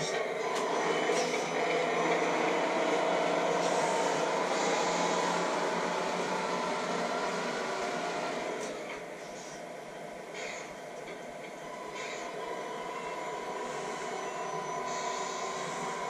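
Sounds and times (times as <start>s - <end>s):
toy truck motor running: 0.0s - 9.1s, 11.7s - 16.0s.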